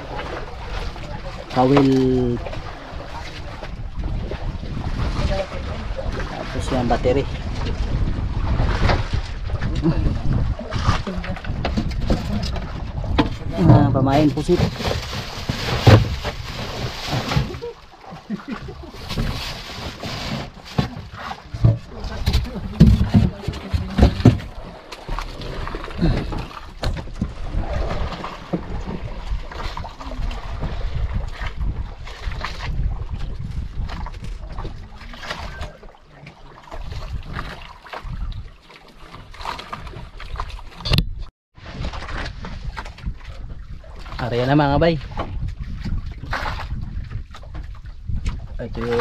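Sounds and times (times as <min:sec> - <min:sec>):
wind buffeting microphone: 0:00.0 - 0:17.7, 0:25.4 - 0:35.8, 0:36.6 - 0:49.0
water splashing against boat hull: 0:00.0 - 0:49.0.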